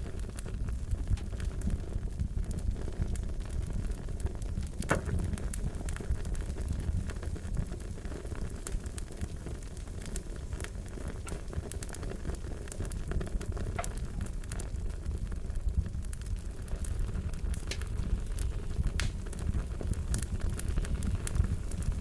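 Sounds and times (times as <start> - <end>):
pops and snaps of burning wood: 0.0 - 22.0
wood fire crackling: 0.0 - 22.0.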